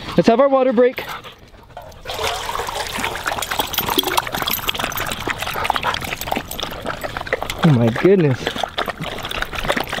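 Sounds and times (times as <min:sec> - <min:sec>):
dogs lapping water: 0:00.0 - 0:10.0.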